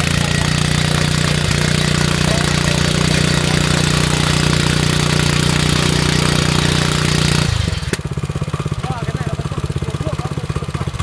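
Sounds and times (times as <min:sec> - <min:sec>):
small tiller engine running: 0:00.0 - 0:11.0.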